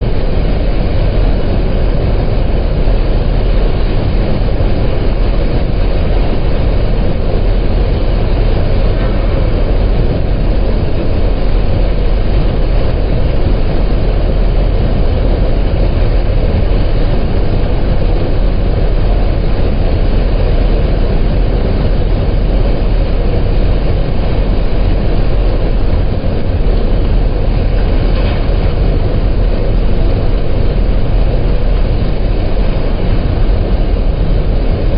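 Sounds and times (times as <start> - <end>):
boat engine rumbling: 0.0 - 34.9.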